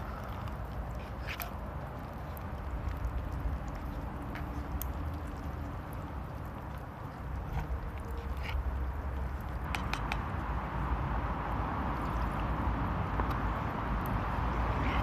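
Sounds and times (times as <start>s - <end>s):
wood fire crackling: 0.0s - 14.8s.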